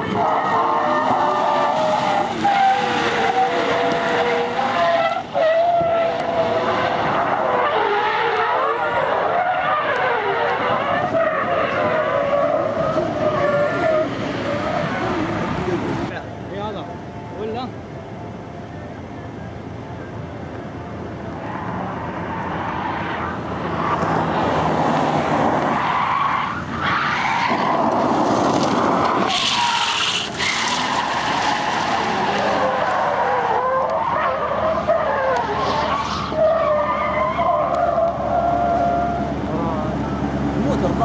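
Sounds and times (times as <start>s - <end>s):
tires skidding and squealing: 0.0s - 16.1s, 21.4s - 41.0s.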